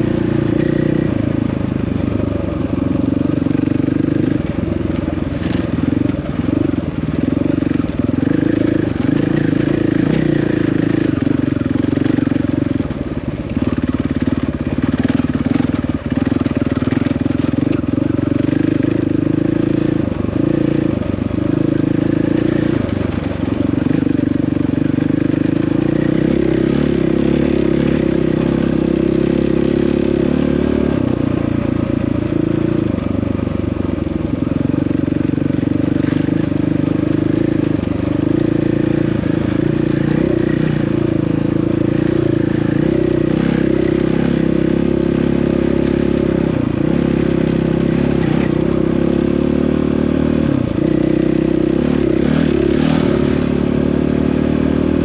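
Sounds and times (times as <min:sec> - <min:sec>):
dirt bike engine revving: 0:00.0 - 0:33.0, 0:33.9 - 0:55.0.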